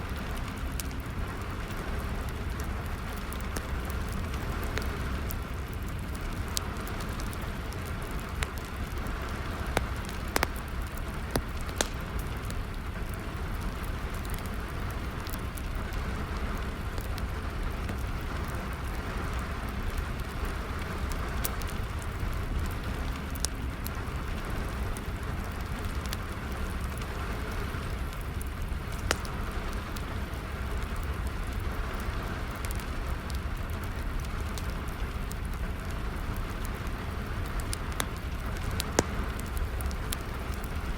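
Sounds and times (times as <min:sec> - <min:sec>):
steady rain falling: 0:00.0 - 0:40.9
wood fire crackling: 0:00.0 - 0:40.9.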